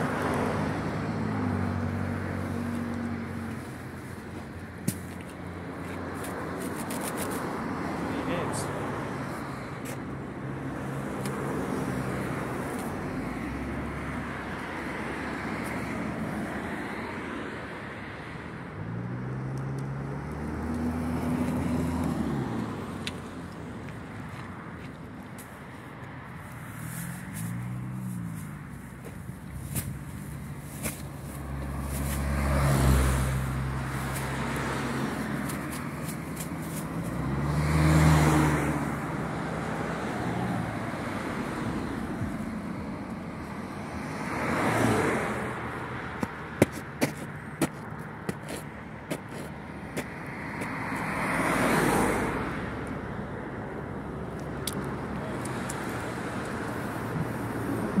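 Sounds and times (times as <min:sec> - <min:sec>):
cars passing: 0:00.0 - 0:58.0
steady traffic noise: 0:00.0 - 0:58.0.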